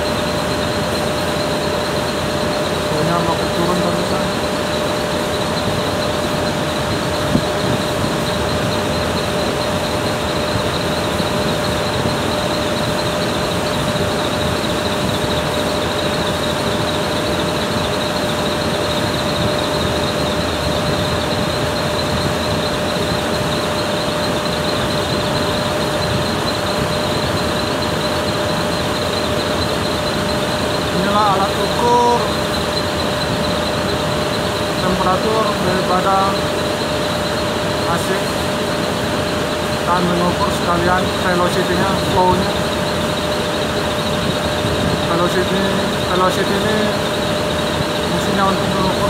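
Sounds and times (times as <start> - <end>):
air conditioner blower rushing: 0.0 - 49.0
thin steady whine: 0.0 - 49.0.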